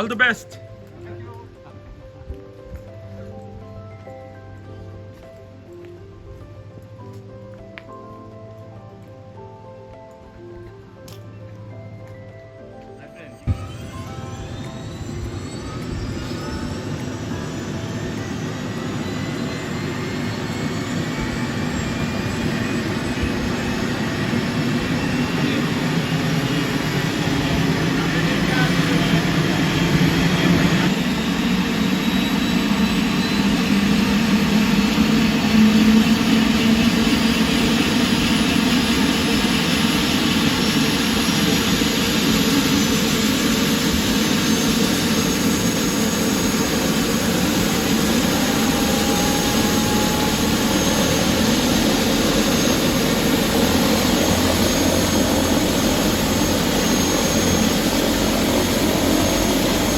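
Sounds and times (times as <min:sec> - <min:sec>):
helicopter engine and rotor: 0:00.0 - 0:06.4, 0:08.0 - 0:59.9
faint high whine: 0:11.7 - 0:59.9.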